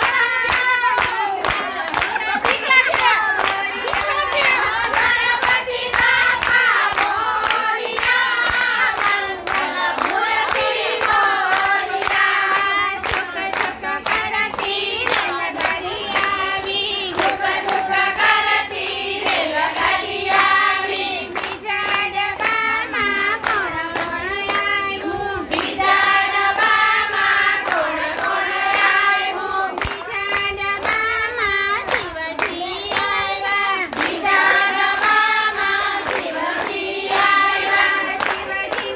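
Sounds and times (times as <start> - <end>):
hands clapping in rhythm: 0.0 - 38.9
women singing in unison: 0.0 - 38.9.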